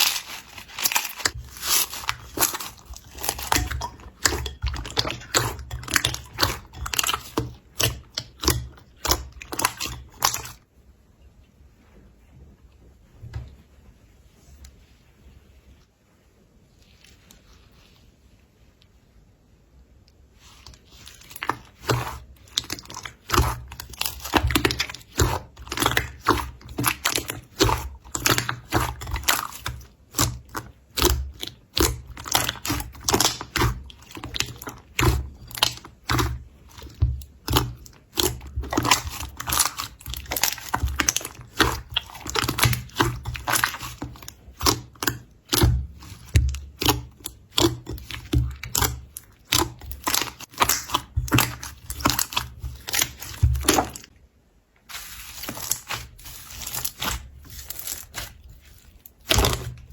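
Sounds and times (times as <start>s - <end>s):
slime crackling and popping: 0.0s - 10.6s, 20.5s - 54.1s, 54.9s - 59.9s.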